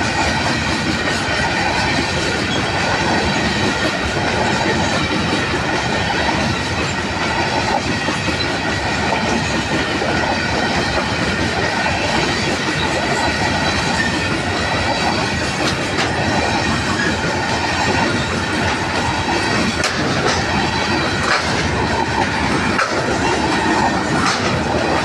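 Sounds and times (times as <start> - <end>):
steel wheels running on rails: 0.0 - 25.0.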